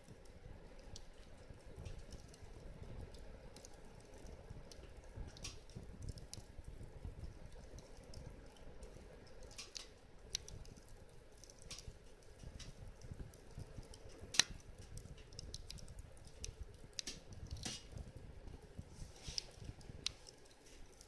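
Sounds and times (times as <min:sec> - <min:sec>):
wood fire crackling: 0:00.0 - 0:21.0
sharp pops from fire: 0:00.1 - 0:21.0.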